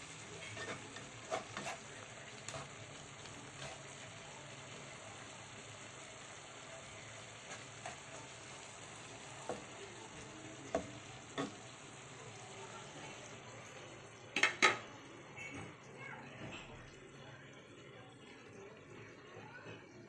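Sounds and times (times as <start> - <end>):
vegetables and meat sizzling: 0.0 - 20.0.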